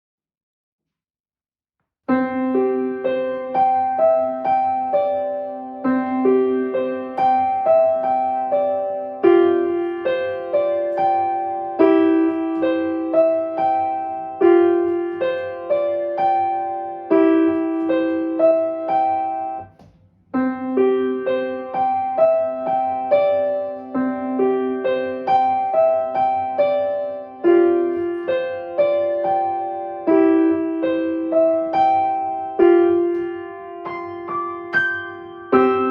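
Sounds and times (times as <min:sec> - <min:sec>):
solo piano playing: 0:02.1 - 0:35.9.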